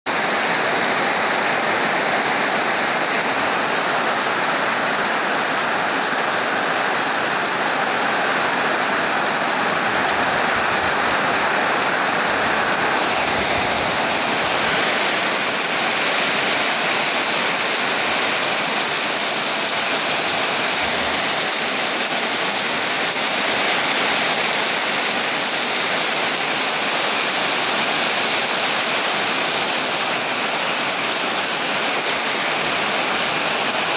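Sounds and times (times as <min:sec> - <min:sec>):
heavy rain on foliage: 0:00.1 - 0:33.9.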